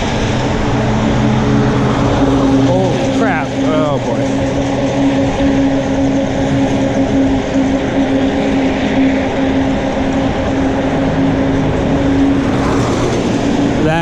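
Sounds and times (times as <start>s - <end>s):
road and wind noise: 0.0s - 14.0s
rough car engine droning: 0.0s - 14.0s.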